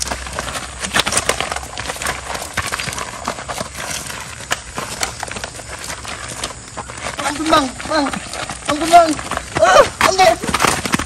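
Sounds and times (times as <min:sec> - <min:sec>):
scuffling footsteps on gravel: 0:00.0 - 0:11.0.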